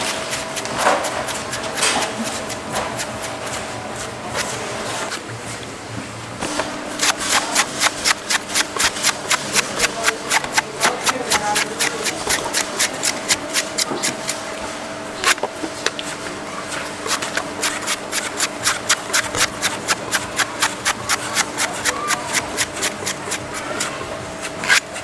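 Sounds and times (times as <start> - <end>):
knife chopping coconut: 0.0 - 4.5, 7.0 - 14.4, 16.8 - 25.0.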